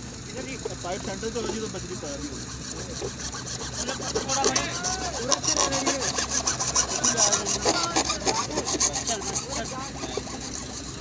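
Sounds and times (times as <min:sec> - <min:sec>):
plastic rubbing and scraping: 0:00.4 - 0:11.0.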